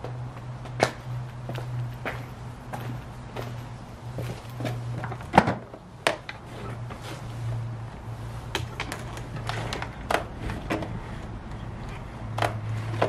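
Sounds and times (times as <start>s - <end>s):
footsteps on paving slabs: 0.0s - 13.0s
low steady hum: 0.0s - 13.0s.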